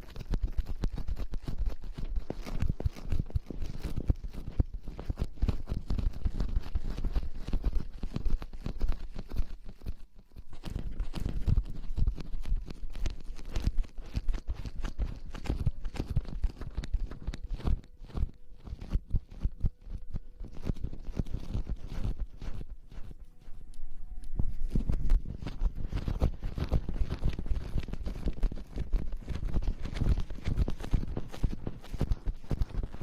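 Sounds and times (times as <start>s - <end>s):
close rustling crackles: 0.0s - 33.0s.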